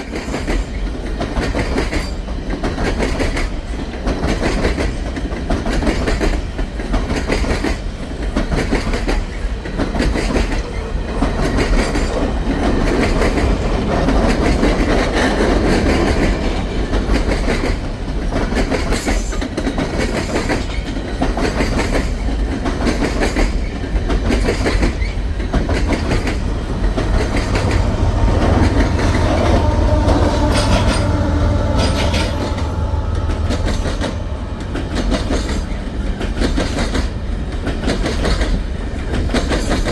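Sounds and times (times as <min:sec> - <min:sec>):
train rumble: 0:00.0 - 0:39.9
train wheels clicking over rail joints: 0:00.0 - 0:39.9.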